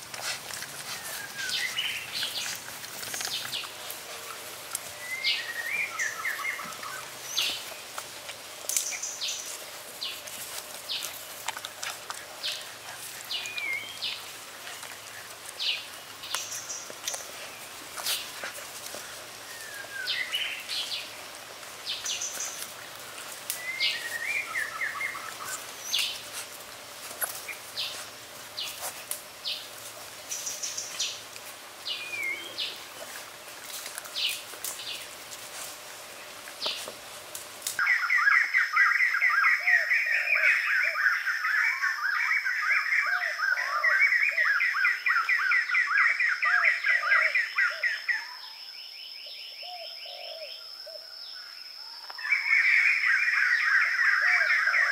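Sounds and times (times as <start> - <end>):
birds chirping: 0.0 - 51.5, 52.1 - 54.9.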